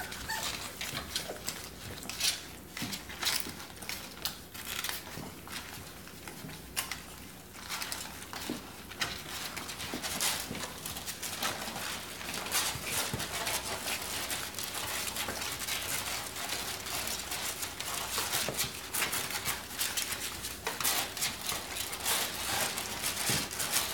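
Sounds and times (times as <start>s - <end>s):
puppies suckling clicks and smacks: 0.0s - 23.9s.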